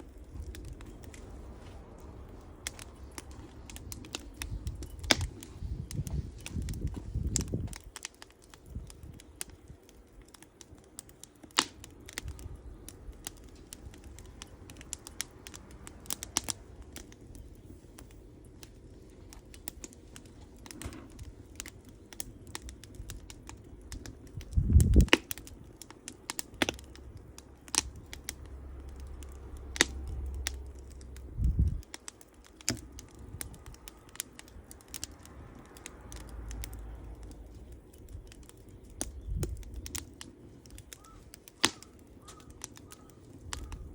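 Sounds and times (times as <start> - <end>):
campfire crackling: 0.0 - 43.9
wood popping and snapping: 0.0 - 43.9.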